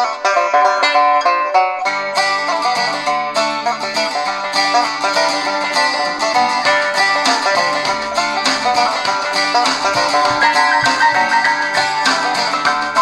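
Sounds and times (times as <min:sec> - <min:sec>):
bluegrass banjo and guitar music: 0:00.0 - 0:13.0.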